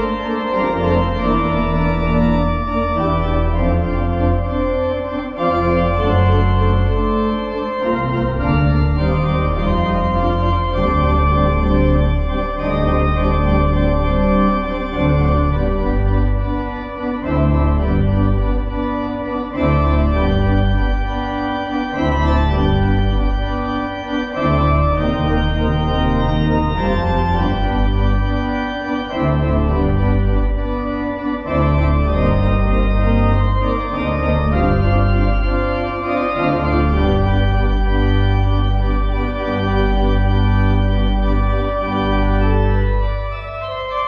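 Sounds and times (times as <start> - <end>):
church organ playing chords: 0.0 - 44.0.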